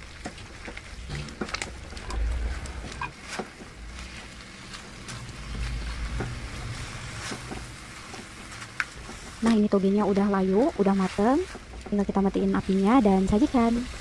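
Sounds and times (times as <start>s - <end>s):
sauce simmering hiss: 0.0s - 14.0s
spatula scraping pan: 0.2s - 14.0s.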